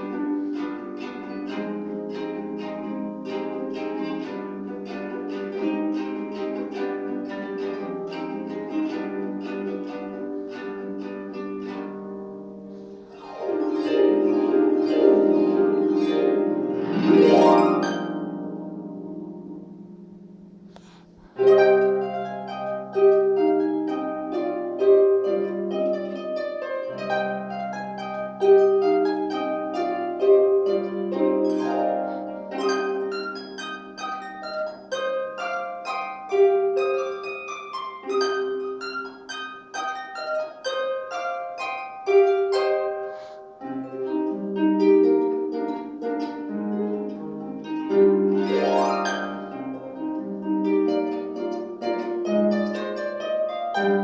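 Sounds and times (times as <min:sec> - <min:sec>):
harp glissando: 0:00.0 - 0:54.0
harp melody: 0:00.0 - 0:54.0.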